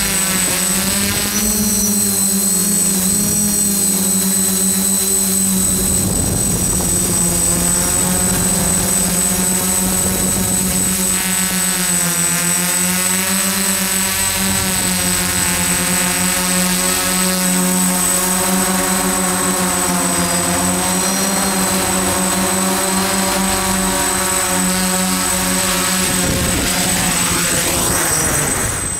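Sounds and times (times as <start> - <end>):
drone motors buzzing: 0.0 - 28.9
thin high whine: 0.0 - 28.9.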